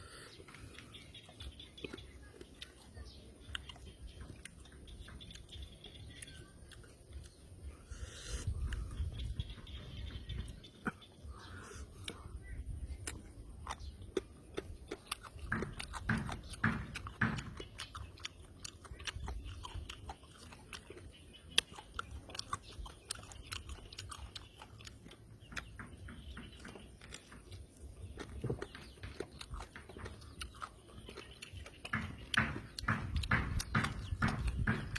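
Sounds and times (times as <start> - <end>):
man chewing food: 0.0 - 34.9.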